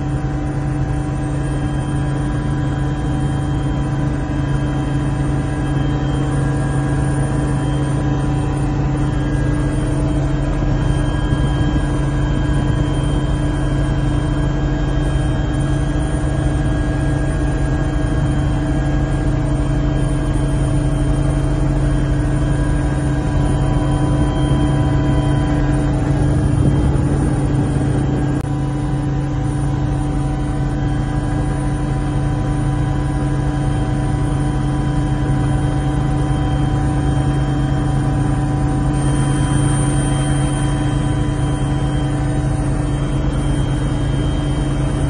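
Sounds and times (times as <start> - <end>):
helicopter engine and rotor: 0.0 - 45.0.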